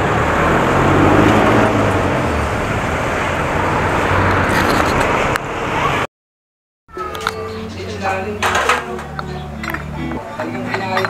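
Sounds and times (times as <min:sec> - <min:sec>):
vehicles passing: 0:00.0 - 0:06.1, 0:06.9 - 0:11.0.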